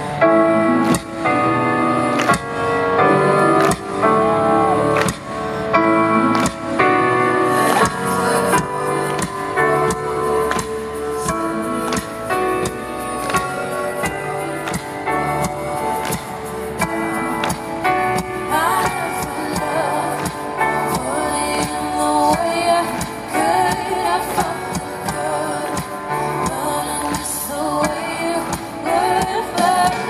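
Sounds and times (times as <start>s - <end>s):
live pop band playing: 0.0s - 30.0s
woman singing lead vocal: 0.0s - 30.0s.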